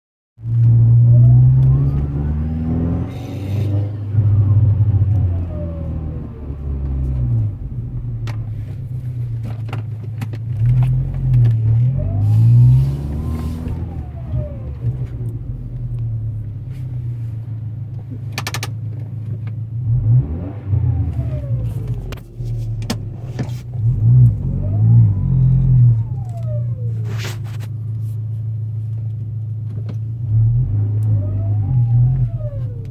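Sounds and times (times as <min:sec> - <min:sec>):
car engine idling and revving: 0:00.4 - 0:32.9.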